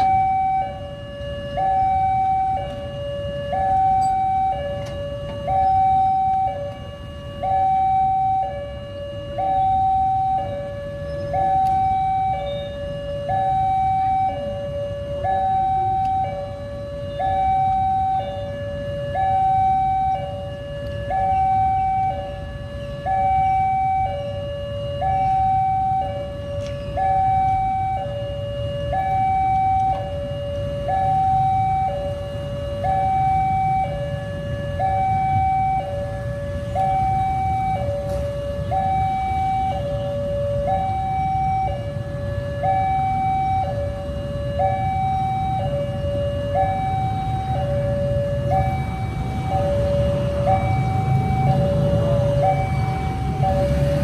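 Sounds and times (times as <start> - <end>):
idling traffic rumble: 0.0 - 54.0
level crossing two-tone alarm: 0.0 - 54.0.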